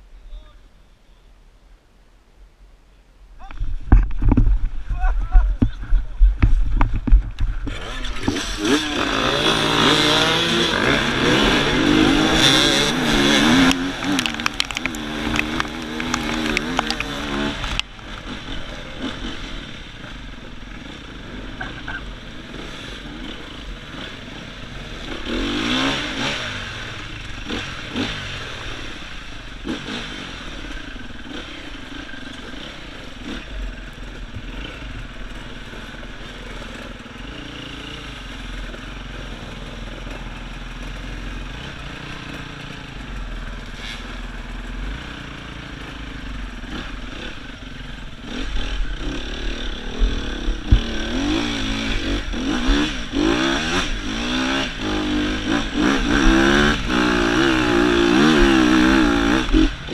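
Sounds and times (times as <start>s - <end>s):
dirt bike engine running: 3.8s - 59.9s
motorcycle engines revving: 4.2s - 59.9s.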